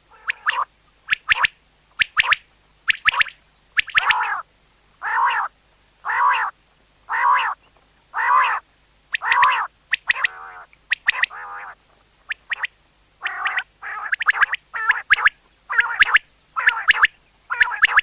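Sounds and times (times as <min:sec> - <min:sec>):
quail calling: 0:00.0 - 0:18.0.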